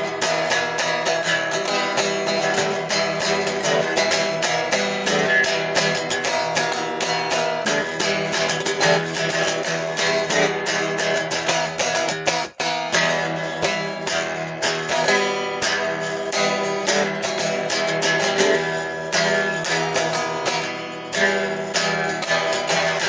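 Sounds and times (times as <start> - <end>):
guitar strumming chords: 0.0 - 23.0.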